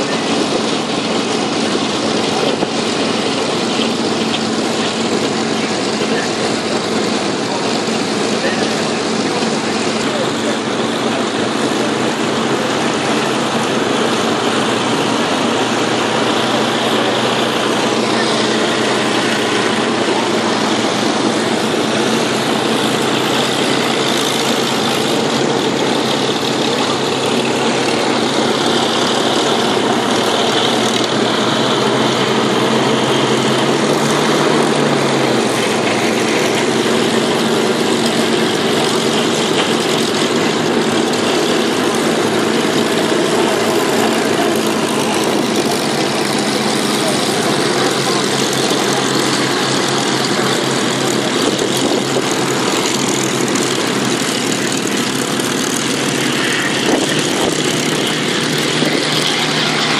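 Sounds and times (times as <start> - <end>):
propeller engine drone: 0.0 - 59.9.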